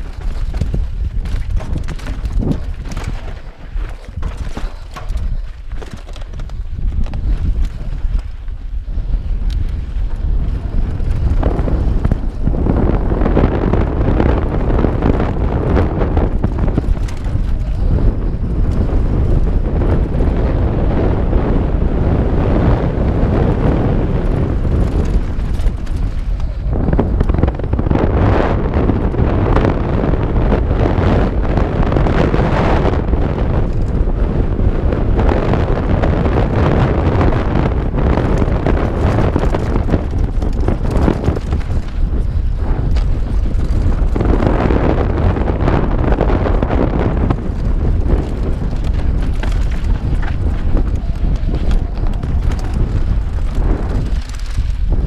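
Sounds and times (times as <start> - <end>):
mountain bike rattling on dirt trail: 0.0 - 55.0
wind on microphone: 0.0 - 55.0.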